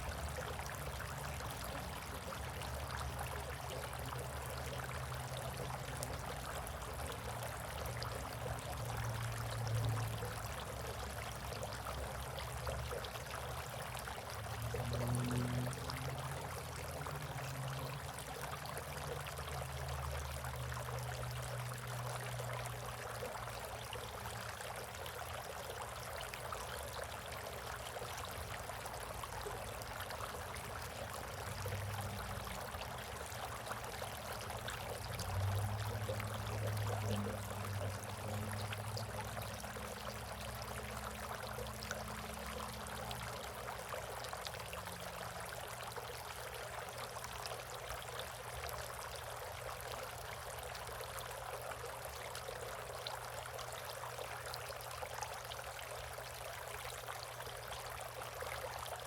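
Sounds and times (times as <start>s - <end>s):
water trickling in bird bath: 0.0s - 59.0s.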